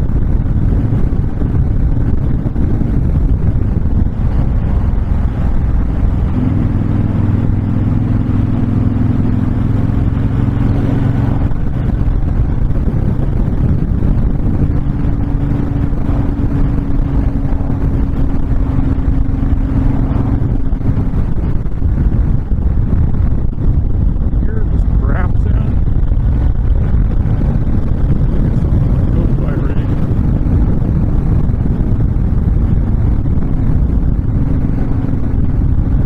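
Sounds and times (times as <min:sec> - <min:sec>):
motorcycle engine cruising: 0:00.0 - 0:36.0
wind rush on microphone: 0:00.0 - 0:36.0.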